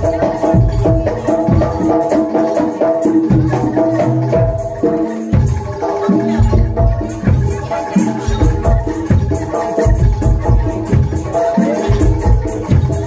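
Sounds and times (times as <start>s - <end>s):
pitched percussion notes: 0.0s - 13.0s.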